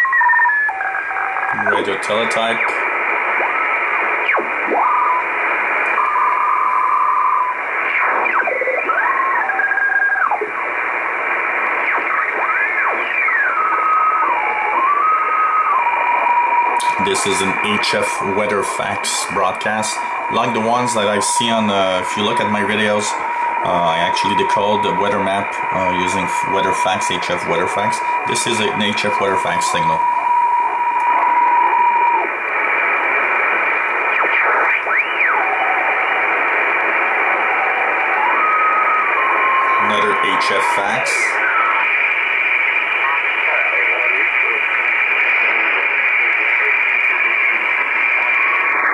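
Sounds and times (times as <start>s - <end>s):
radio static: 0.0s - 48.9s
steady radio tone: 0.0s - 48.9s
whistling radio carriers: 0.0s - 48.9s.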